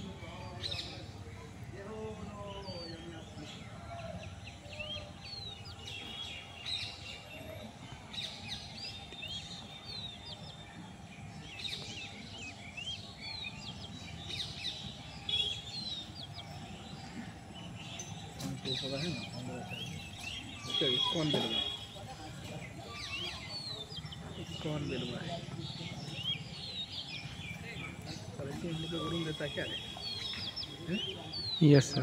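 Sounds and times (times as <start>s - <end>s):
low outdoor hum: 0.0s - 32.0s
small birds chirping: 0.0s - 32.0s.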